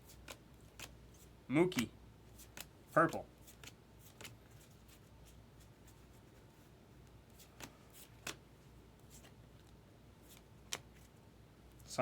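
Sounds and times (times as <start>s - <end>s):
cards being flipped by hand: 0.0s - 11.8s.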